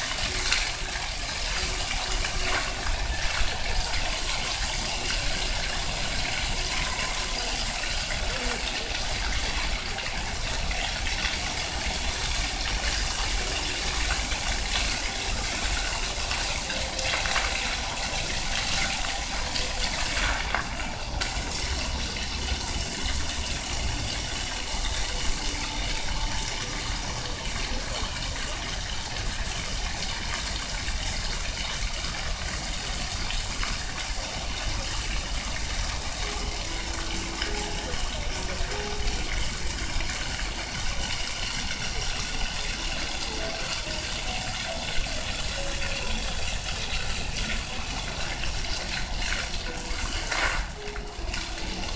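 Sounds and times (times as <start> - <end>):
fountain water splashing: 0.0 - 51.9.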